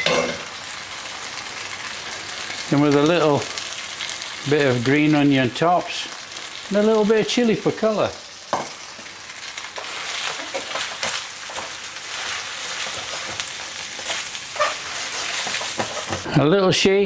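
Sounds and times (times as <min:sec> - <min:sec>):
noodles sizzling in a pan: 0:00.0 - 0:16.4.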